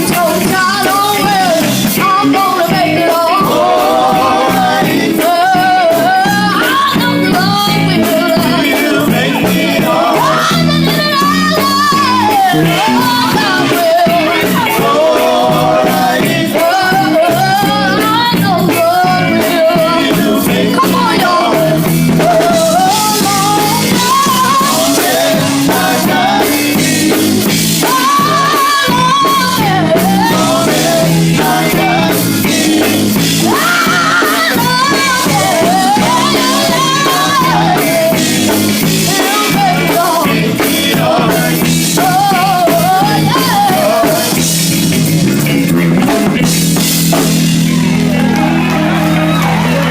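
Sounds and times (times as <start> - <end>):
person singing: 0.0 - 27.2, 27.8 - 44.4
band with drums bass and guitar: 0.0 - 49.9.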